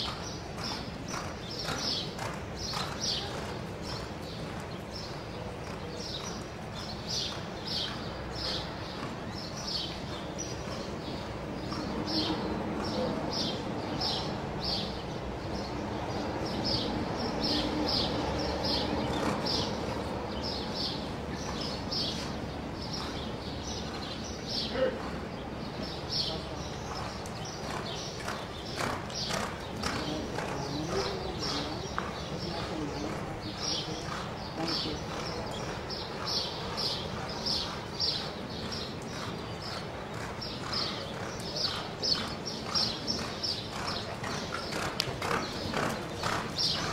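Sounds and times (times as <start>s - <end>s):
horse hoofbeats on dirt: 0.0s - 13.5s, 18.7s - 46.9s.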